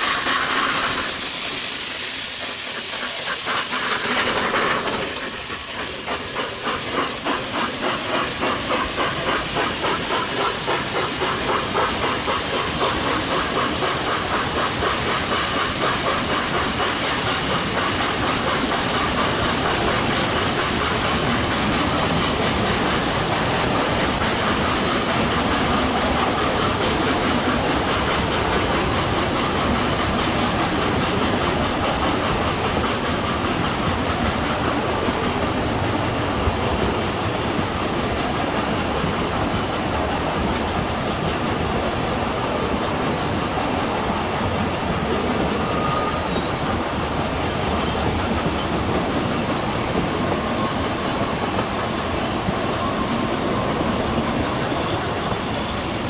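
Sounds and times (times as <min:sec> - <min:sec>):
steam hissing: 0:00.0 - 0:56.0
train carriages rumbling: 0:00.0 - 0:56.0.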